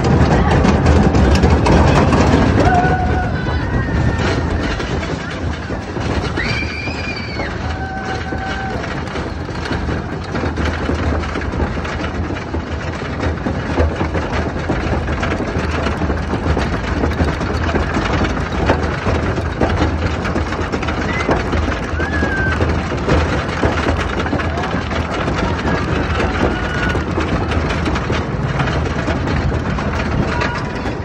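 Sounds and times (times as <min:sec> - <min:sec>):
rapid ratchet clacking: 0:00.0 - 0:31.0
roller coaster chain lift rumble: 0:00.0 - 0:31.0.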